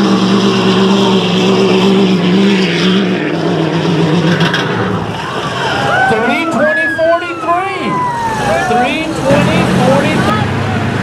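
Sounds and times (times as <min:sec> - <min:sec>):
diesel truck engine at high revs: 0:00.0 - 0:11.0.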